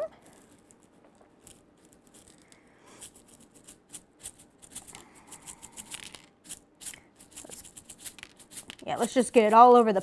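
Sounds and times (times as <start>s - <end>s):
sprinkles rattling in plastic shaker: 0.1s - 10.0s.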